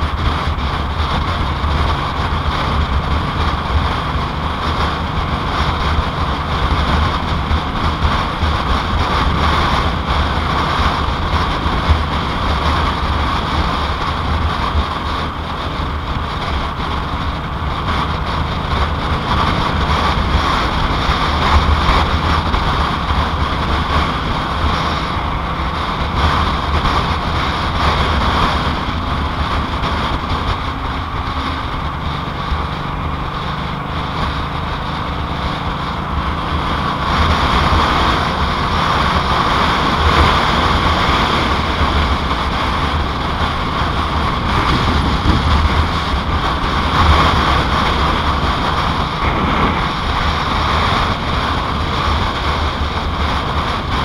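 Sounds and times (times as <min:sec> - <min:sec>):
motorcycle engine running: 0:00.0 - 0:54.0
wind over microphone: 0:00.0 - 0:54.0.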